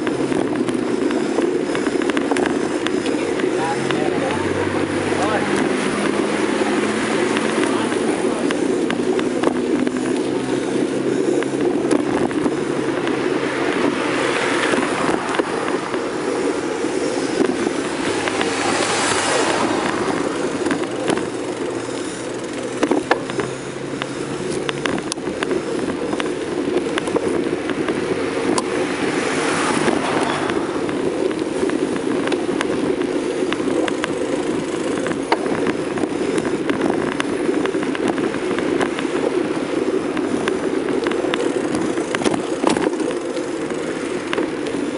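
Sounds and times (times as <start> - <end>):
bicycle rolling over pavement: 0.0 - 44.9
wind on microphone: 0.0 - 44.9.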